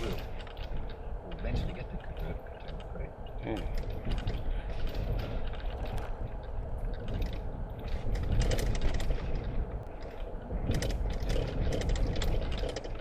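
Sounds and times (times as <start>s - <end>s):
rattles and knocks: 0.0s - 13.0s.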